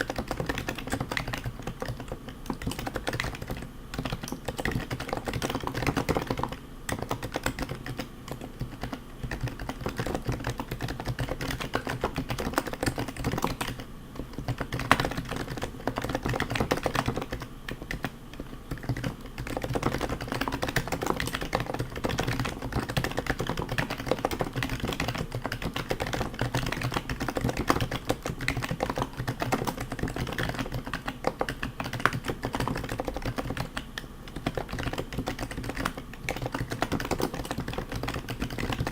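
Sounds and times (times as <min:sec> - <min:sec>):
fast typing on a keyboard: 0:00.0 - 0:38.9.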